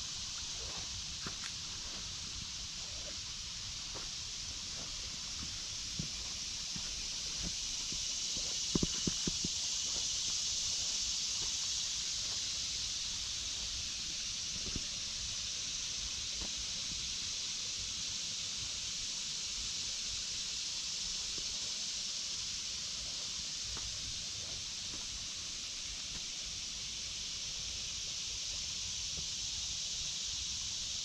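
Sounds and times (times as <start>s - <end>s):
cicadas chorus: 0.0s - 31.0s.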